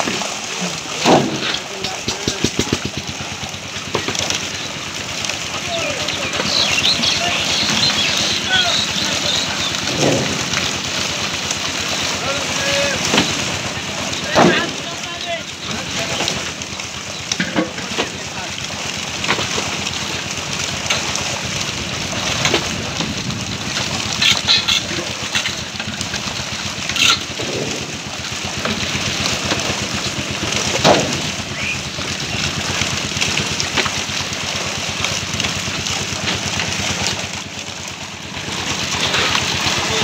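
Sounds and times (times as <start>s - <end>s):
fish thrashing in water: 0.0s - 40.0s.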